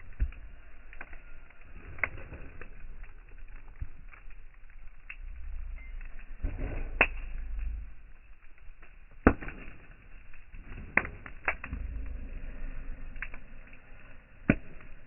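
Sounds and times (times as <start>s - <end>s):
campfire wood crackling: 0.0s - 15.0s
low rumble: 0.0s - 15.0s.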